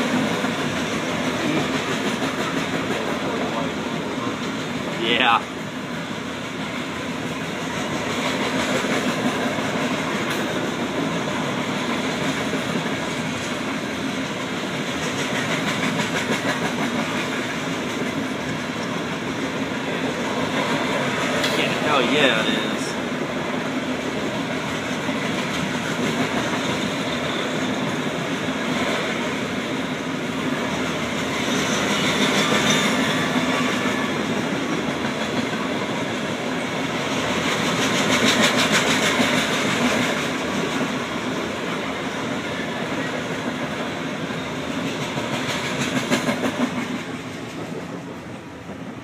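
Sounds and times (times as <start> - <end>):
wheels clacking over rail joints: 0.0 - 5.0, 6.5 - 49.0
train wheels rumbling on rail: 0.0 - 49.0.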